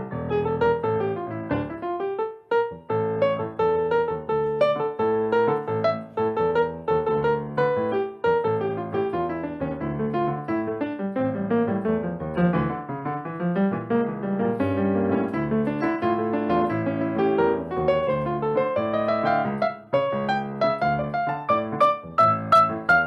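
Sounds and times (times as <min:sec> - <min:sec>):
piano playing fast runs: 0:00.0 - 0:23.0.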